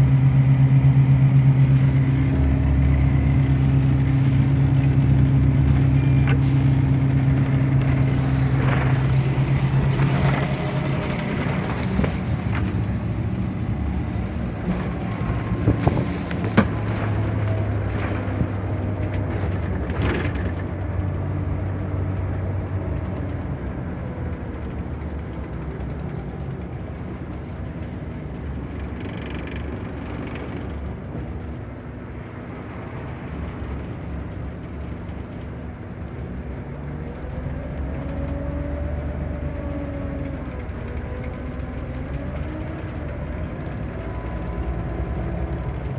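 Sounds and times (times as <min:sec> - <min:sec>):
diesel bus engine running: 0:00.0 - 0:45.9.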